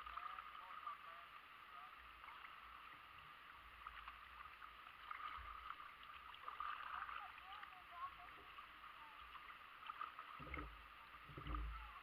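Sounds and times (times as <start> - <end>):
creek water rippling: 0.0 - 12.0.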